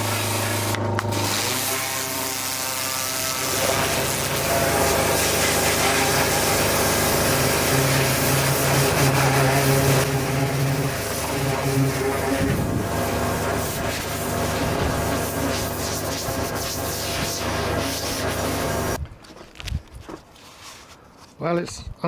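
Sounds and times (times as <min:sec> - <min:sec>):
pressure washer motor humming: 0:00.0 - 0:19.0
water jet hissing on metal: 0:00.0 - 0:19.0.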